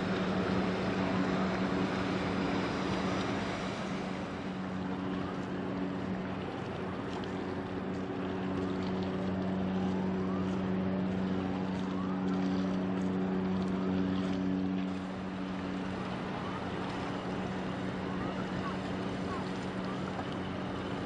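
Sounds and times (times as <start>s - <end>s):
ship engine drone: 0.0s - 21.0s.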